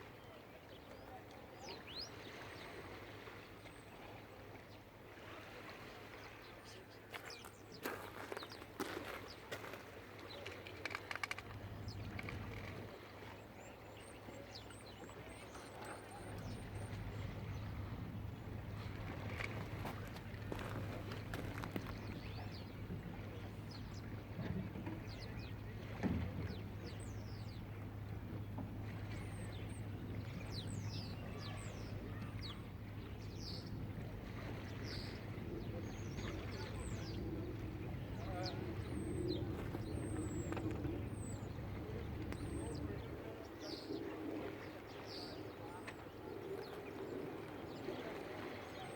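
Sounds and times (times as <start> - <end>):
birds chirping: 6.2 - 48.9.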